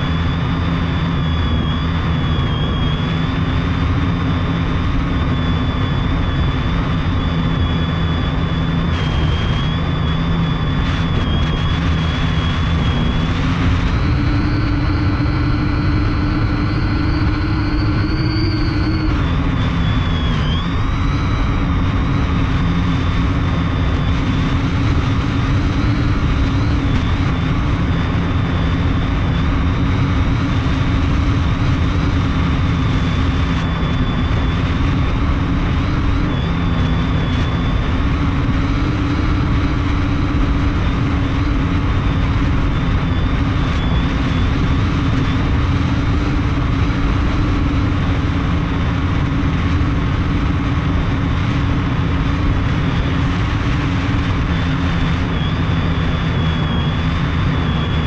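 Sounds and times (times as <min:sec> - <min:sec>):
drone motors humming: 0:00.0 - 0:58.0.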